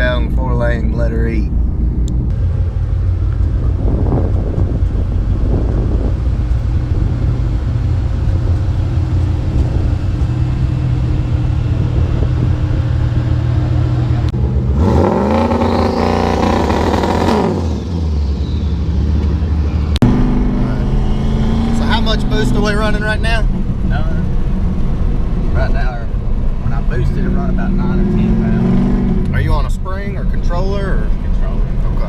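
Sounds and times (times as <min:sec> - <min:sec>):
car engine droning: 0:00.0 - 0:32.0.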